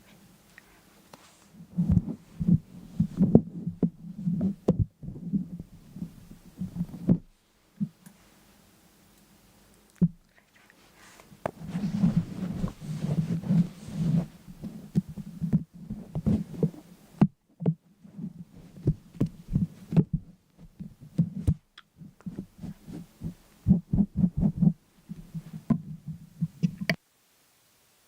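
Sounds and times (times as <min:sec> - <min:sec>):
rustling: 0:00.0 - 0:08.6, 0:09.7 - 0:17.0, 0:18.0 - 0:27.0
soft irregular thumps and taps: 0:00.6 - 0:08.2, 0:10.0 - 0:10.3, 0:11.2 - 0:27.0.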